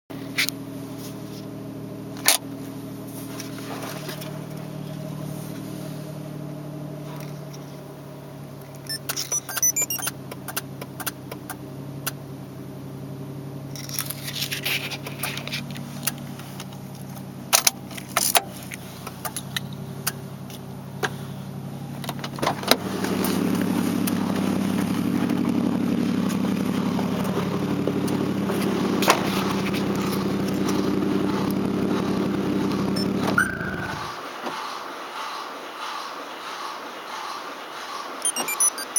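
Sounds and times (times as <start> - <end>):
car engine idling: 0.1 - 38.9.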